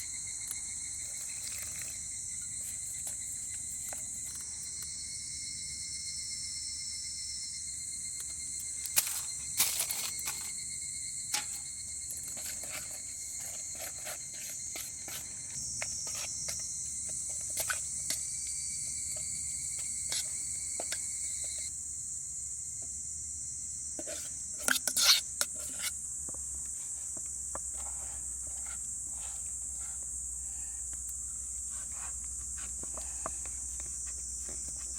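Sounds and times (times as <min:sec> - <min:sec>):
crickets chirring: 0:00.0 - 0:34.9.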